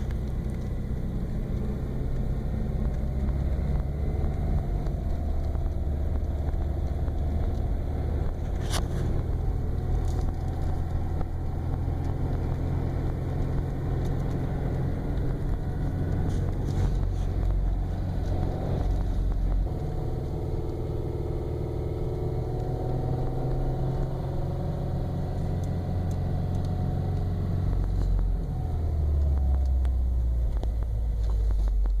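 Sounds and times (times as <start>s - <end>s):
car engine pulling in gear: 0.0s - 32.0s.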